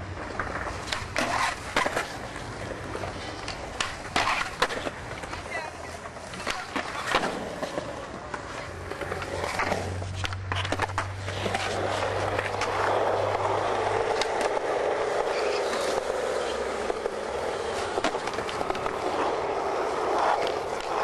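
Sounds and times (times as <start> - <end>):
skateboard clacks: 0.0 - 21.0
skateboard grinding along ledge: 0.0 - 21.0
skateboard wheels rolling on concrete: 0.0 - 21.0.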